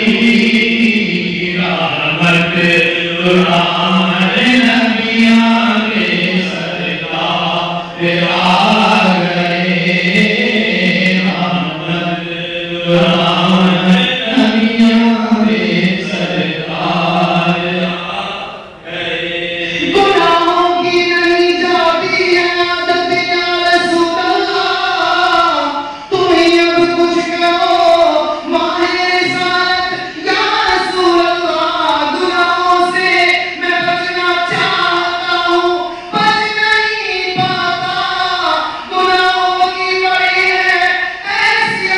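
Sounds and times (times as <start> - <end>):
men singing a devotional chant: 0.0 - 41.9.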